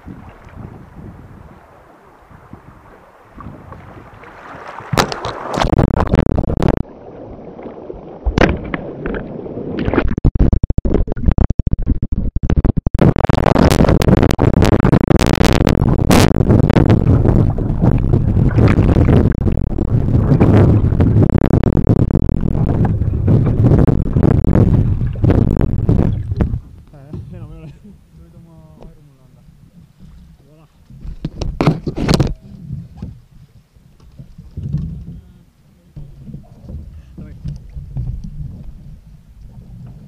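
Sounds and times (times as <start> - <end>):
kayak splashes: 0.0 - 10.1, 13.1 - 40.0
water rushing and churning: 0.0 - 11.4, 13.0 - 40.0
underwater rush: 0.0 - 40.0.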